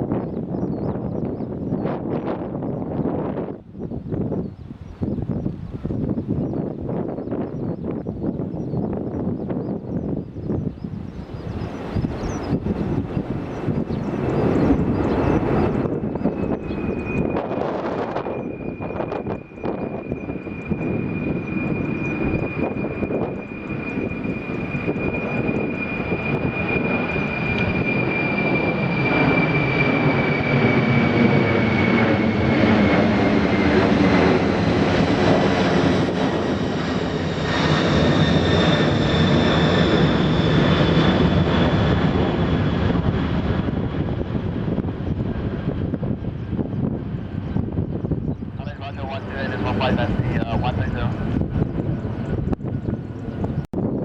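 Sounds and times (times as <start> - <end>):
jet engine fan whine: 0.0 - 54.0.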